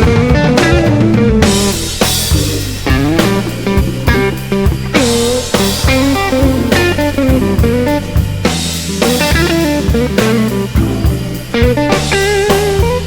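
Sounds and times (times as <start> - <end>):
bass guitar: 0.0 - 13.0
drums: 0.0 - 13.0
lead guitar solo: 0.0 - 13.0.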